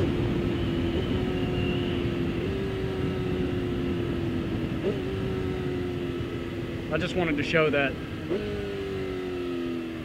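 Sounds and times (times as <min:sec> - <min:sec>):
wind rushing and road noise: 0:00.0 - 0:10.0.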